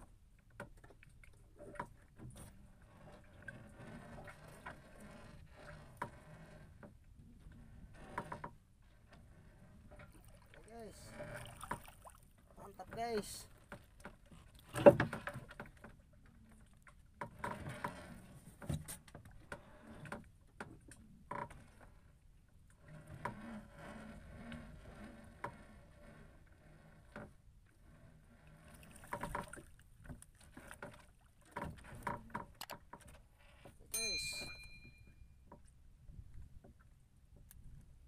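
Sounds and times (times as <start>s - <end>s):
water lapping against hull: 0.0s - 34.9s
fishing line hauled over boat: 0.0s - 38.0s
knocks and clicks of line and boat: 0.0s - 38.0s.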